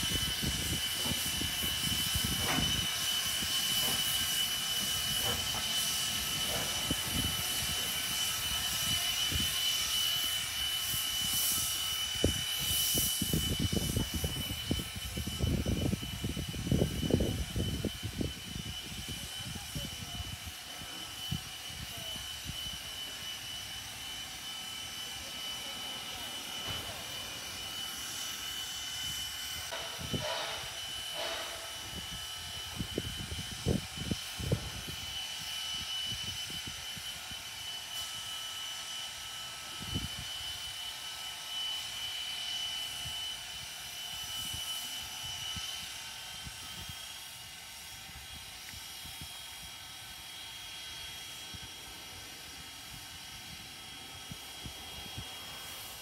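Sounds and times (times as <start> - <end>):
steam hiss: 0.0 - 56.0
steam locomotive whine: 0.0 - 56.0.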